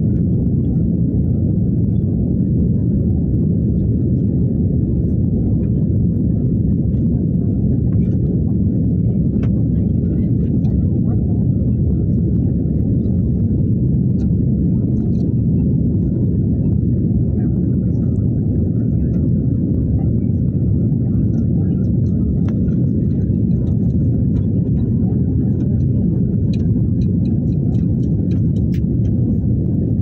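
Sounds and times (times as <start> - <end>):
jet engine cabin rumble: 0.0 - 30.0.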